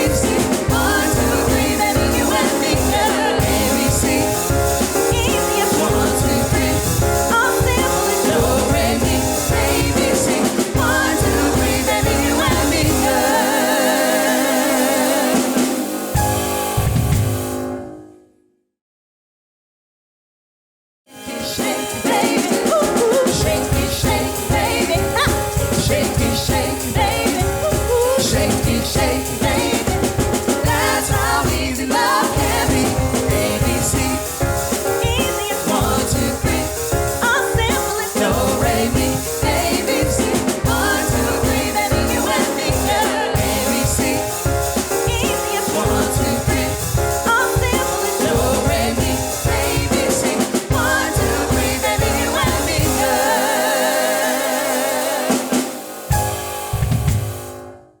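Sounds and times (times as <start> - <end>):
vocal ensemble singing: 0.0 - 16.7, 21.1 - 56.5
bass and drums beat: 0.0 - 17.6, 21.6 - 53.6, 55.3 - 57.6.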